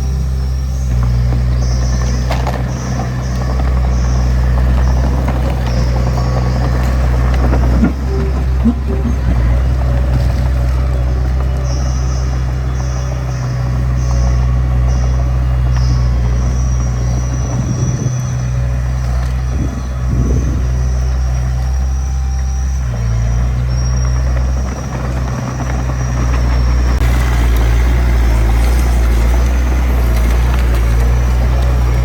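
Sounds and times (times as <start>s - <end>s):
diesel machinery engine running: 0.0s - 32.0s.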